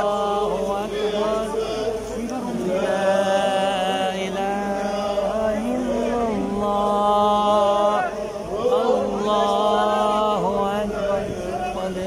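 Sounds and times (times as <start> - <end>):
man chanting recitation: 0.0 - 12.0.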